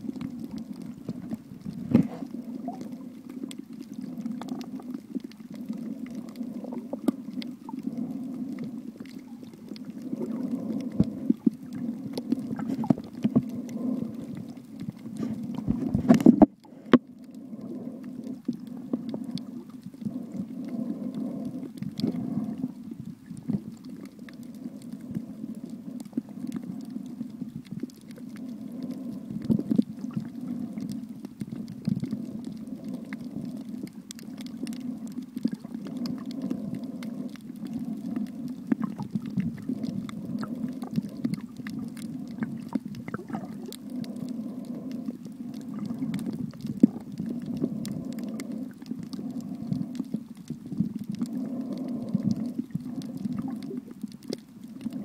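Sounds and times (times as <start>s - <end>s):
muffled underwater hum: 0.0s - 55.0s.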